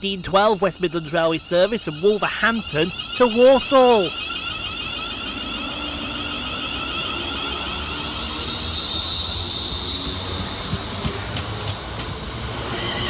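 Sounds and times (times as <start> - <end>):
high pulsing electronic tone: 0.0 - 13.0
train rumble: 0.0 - 13.0.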